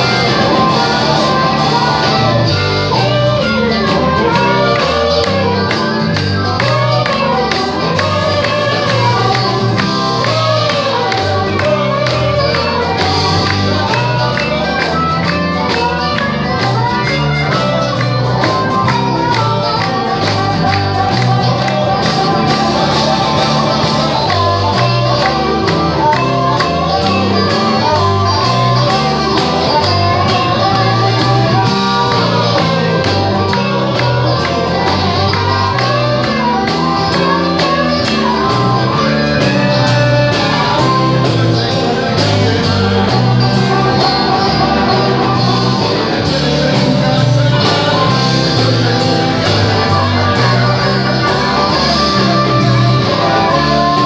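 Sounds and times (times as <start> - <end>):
drums: 0.0 - 54.0
electric guitar: 0.0 - 54.0
harmonica: 0.0 - 54.0
person singing: 0.0 - 54.0.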